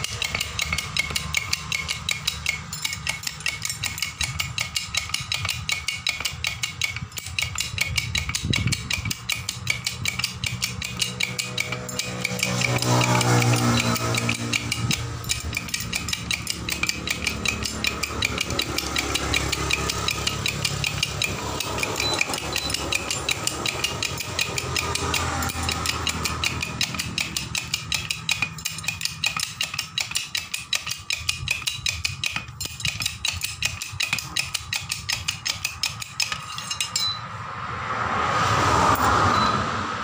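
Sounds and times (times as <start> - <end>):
bottle jack pump clicking: 0.0 - 37.2.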